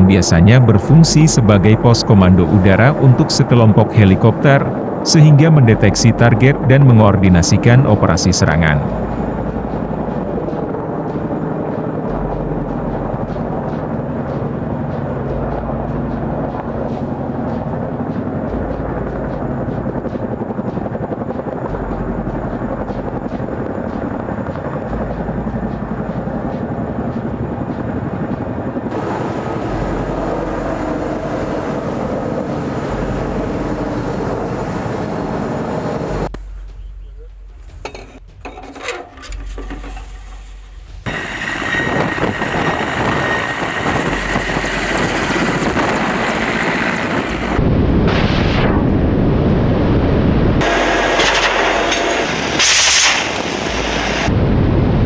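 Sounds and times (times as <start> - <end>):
helicopter rotor and engine: 0.0 - 36.4, 40.9 - 55.0.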